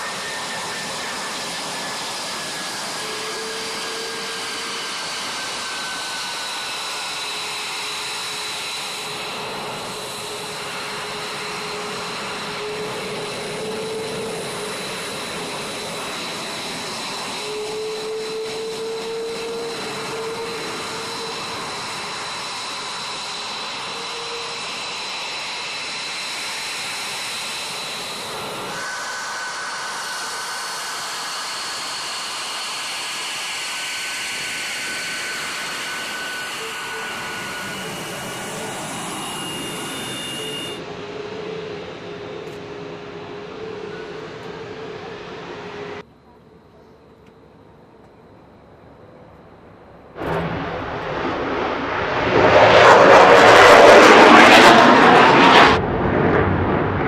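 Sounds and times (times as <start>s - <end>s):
jet engines running: 0.0s - 46.1s, 48.7s - 57.0s
high steady jet whine: 0.0s - 46.2s, 47.5s - 57.0s.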